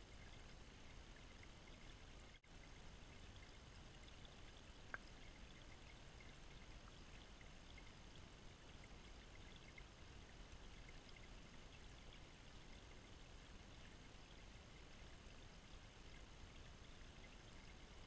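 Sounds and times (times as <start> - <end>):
faint ticks: 0.0 - 18.0.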